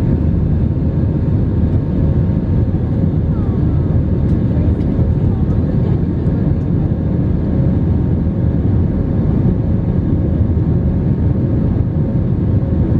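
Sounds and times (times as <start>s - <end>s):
jet engine rumble in cabin: 0.0s - 12.9s.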